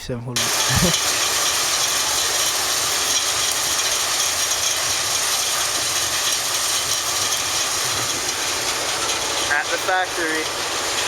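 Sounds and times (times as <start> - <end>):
machine running with dense rattle: 0.4 - 11.0.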